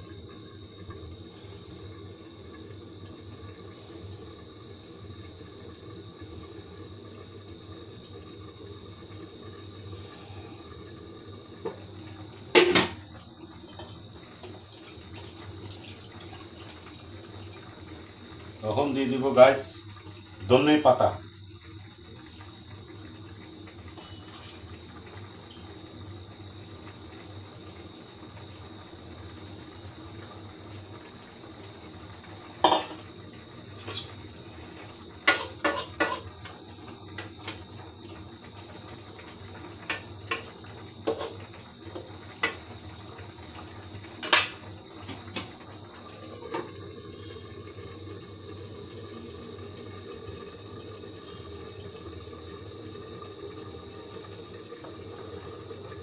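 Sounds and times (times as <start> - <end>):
simmering pan hum: 0.0 - 56.0.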